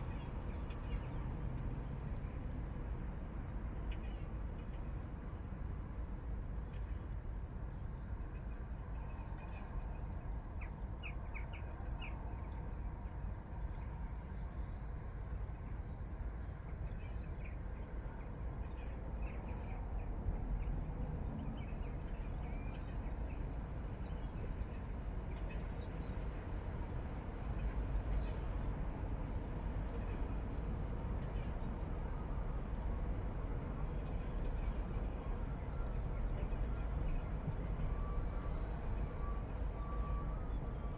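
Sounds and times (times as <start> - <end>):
low outdoor rumble: 0.0 - 40.9.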